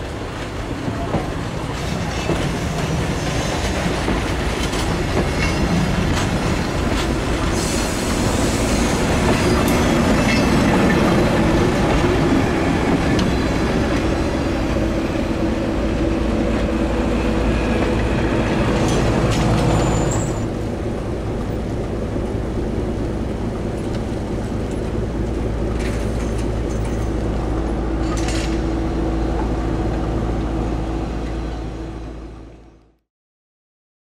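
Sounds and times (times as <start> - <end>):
train running: 0.0 - 32.8.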